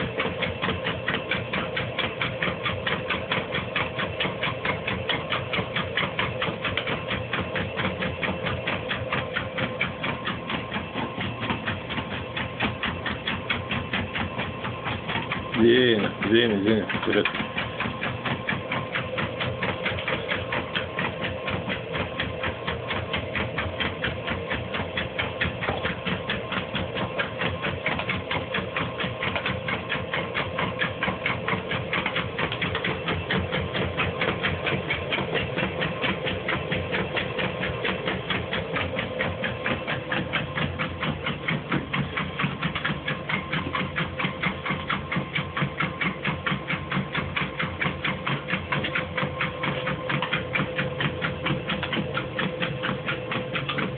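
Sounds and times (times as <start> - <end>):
treadmill motor whine: 0.0 - 53.9.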